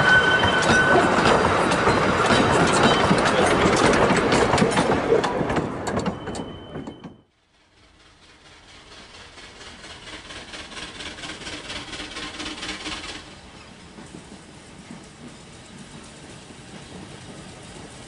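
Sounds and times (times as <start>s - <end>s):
train approaching clicking: 0.0s - 18.0s
train wheels clattering on rail joints: 0.0s - 18.0s.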